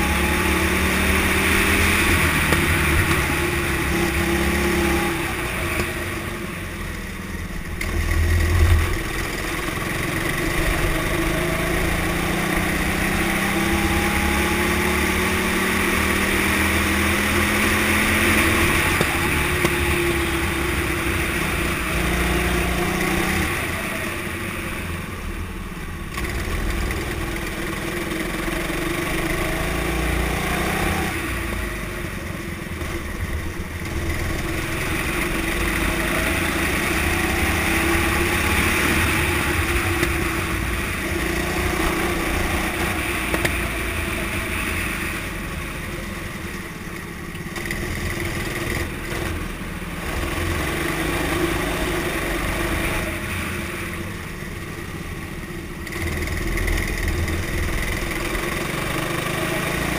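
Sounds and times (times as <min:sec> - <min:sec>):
kart engine revving: 0:00.0 - 0:06.7, 0:07.4 - 0:24.8, 0:26.0 - 0:45.7, 0:47.4 - 0:54.8, 0:55.5 - 0:59.9.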